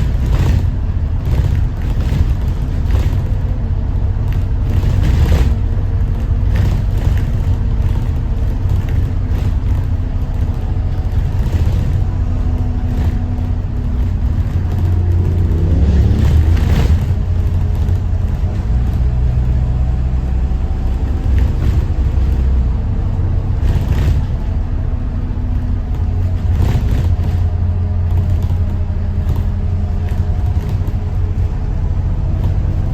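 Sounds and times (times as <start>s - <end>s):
body rattles and knocks: 0.0s - 32.9s
diesel bus engine rumbling: 0.0s - 32.9s
road noise: 0.0s - 32.9s.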